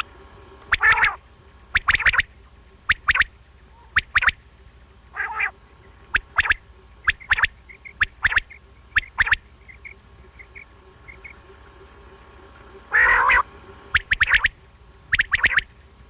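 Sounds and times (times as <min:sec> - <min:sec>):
quail calling: 0:00.0 - 0:04.4, 0:05.1 - 0:12.0, 0:12.8 - 0:15.8
faint steady hum: 0:00.0 - 0:16.0.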